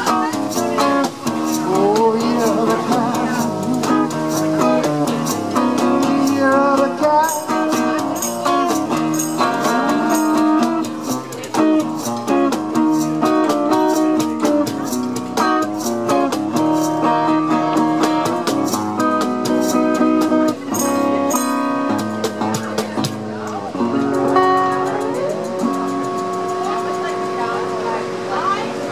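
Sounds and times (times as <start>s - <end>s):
acoustic guitar playing: 0.0s - 28.9s.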